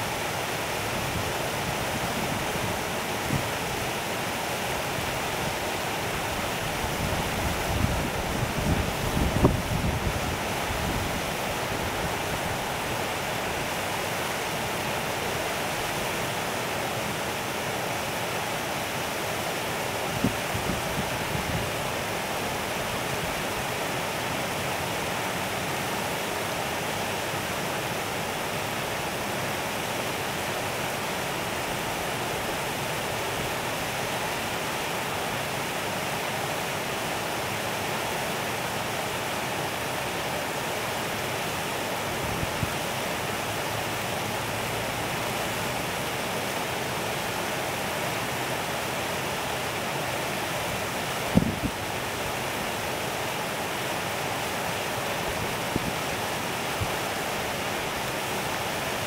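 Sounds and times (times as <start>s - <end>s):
water rushing over weir: 0.0s - 59.0s.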